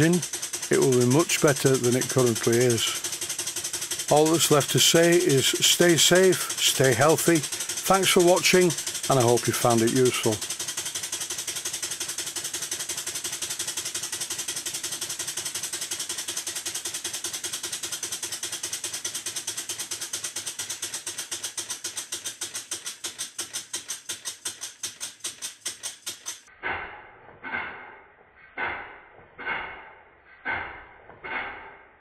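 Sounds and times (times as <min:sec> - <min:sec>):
steam engine exhaust chuffs: 0:00.0 - 0:26.5.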